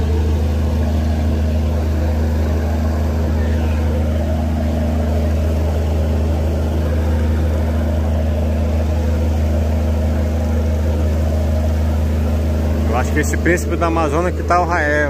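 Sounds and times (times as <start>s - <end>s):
boat engine humming: 0.0s - 15.0s
rushing noise: 0.0s - 15.0s.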